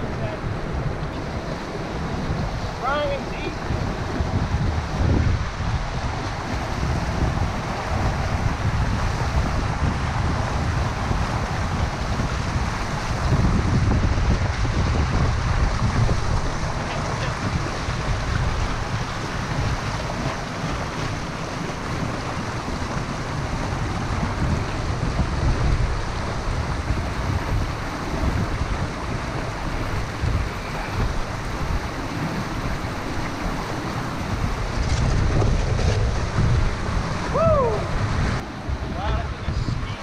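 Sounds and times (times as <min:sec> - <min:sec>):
river current rushing: 0:00.0 - 0:40.0
wind buffeting microphone: 0:00.0 - 0:40.0.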